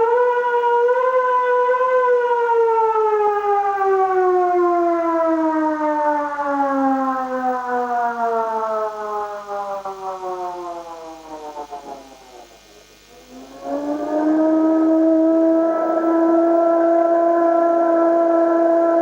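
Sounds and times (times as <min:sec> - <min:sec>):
civil defense siren winding down: 0:00.0 - 0:12.5, 0:13.1 - 0:19.0.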